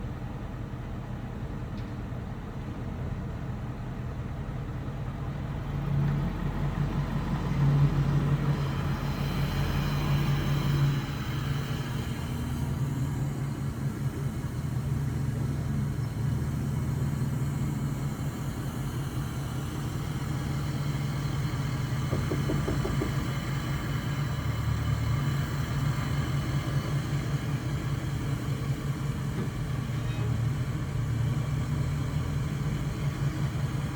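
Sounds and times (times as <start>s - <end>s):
diesel engine rumbling: 2.2s - 33.9s.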